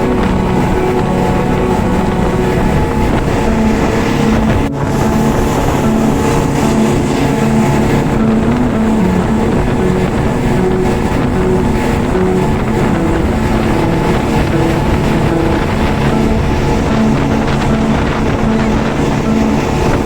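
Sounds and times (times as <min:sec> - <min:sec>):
motorboat engine running: 0:00.0 - 0:20.0
wind buffeting microphone: 0:00.0 - 0:20.0.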